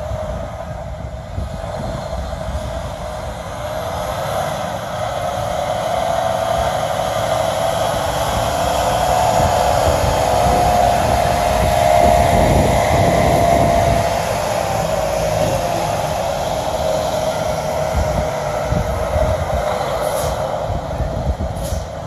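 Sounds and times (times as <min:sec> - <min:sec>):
diesel truck engine whining: 0:00.0 - 0:22.0.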